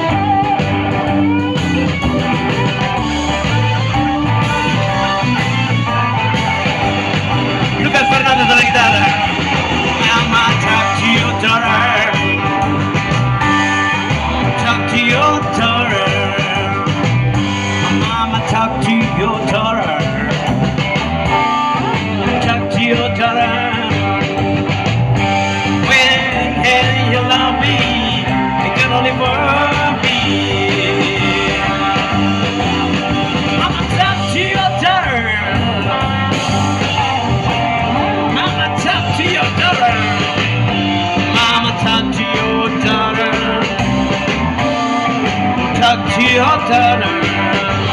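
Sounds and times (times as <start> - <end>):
blues band playing live: 0.0 - 47.9
electric guitar lead: 0.0 - 47.9.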